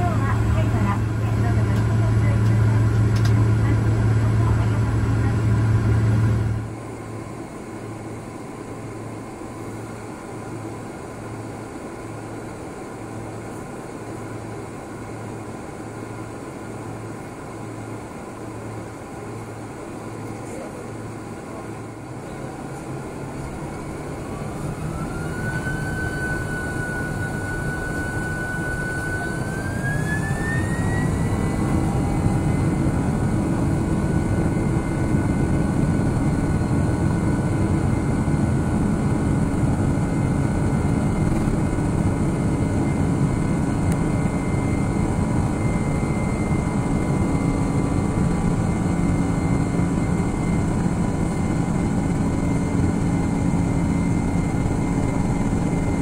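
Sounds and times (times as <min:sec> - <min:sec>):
jet engines spooling up: 0:00.0 - 0:17.0, 0:19.6 - 0:56.0.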